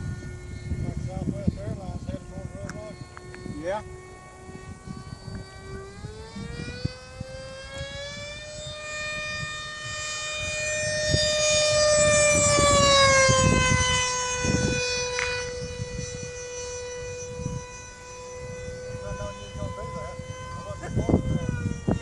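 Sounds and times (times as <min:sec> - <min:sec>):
model plane ducted fans whining: 0:00.0 - 0:22.0.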